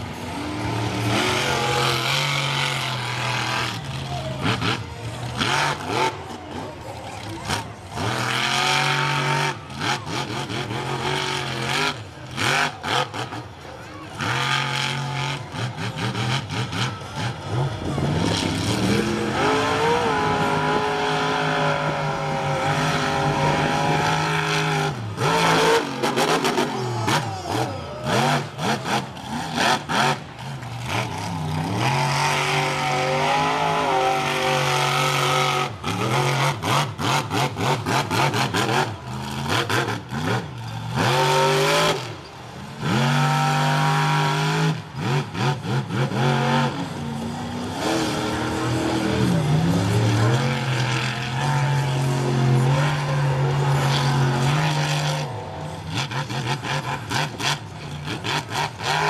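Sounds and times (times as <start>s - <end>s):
monster truck engine revving: 0.0s - 59.0s.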